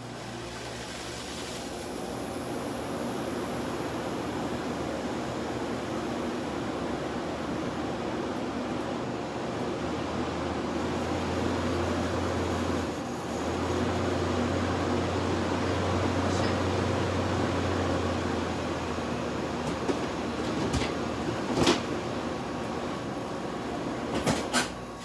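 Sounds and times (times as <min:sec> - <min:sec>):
air conditioner fan rushing: 0:00.0 - 0:25.0.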